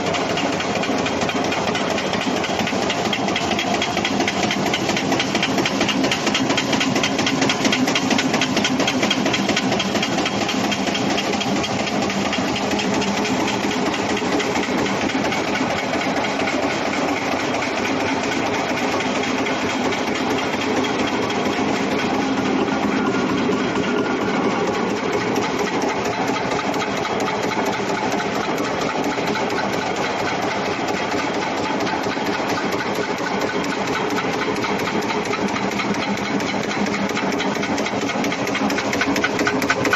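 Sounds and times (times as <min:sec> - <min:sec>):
metal press machine clattering: 0:00.0 - 0:39.9.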